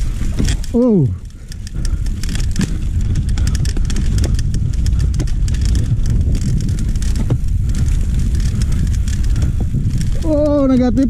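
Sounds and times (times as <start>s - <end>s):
bike clicking and rattling: 0.0s - 11.0s
wind and tyres rumbling: 0.0s - 11.0s.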